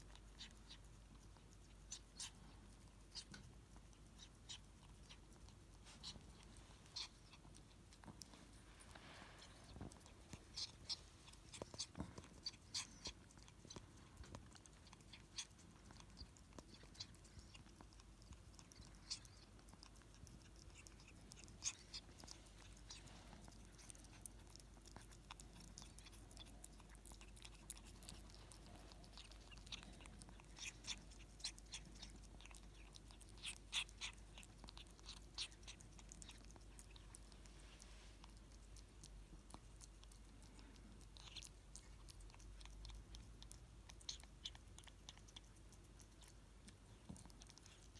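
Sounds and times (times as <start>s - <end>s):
animal licking and chewing: 0.0s - 47.9s.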